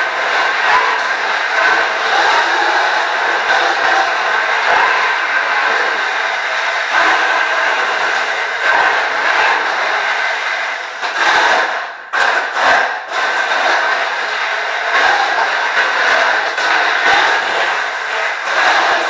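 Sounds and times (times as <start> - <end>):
wheels rolling on concrete: 0.0 - 19.0.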